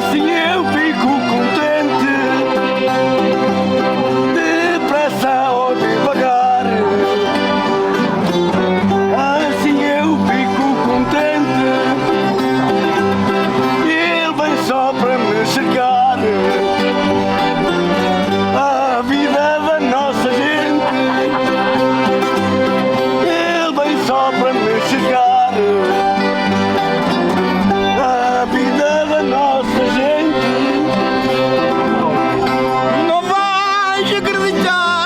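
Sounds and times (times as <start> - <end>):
accordion: 0.0 - 35.0
plucked string instruments: 0.0 - 35.0
voices singing: 0.0 - 35.0.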